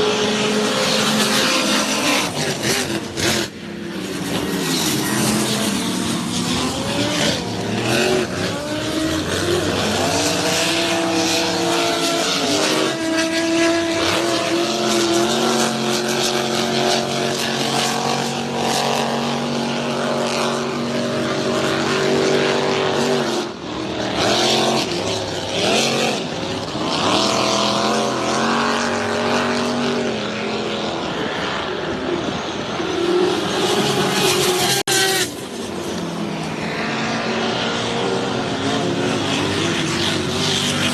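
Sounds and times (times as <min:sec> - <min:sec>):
powerboat engines running hard: 0:00.0 - 0:40.9.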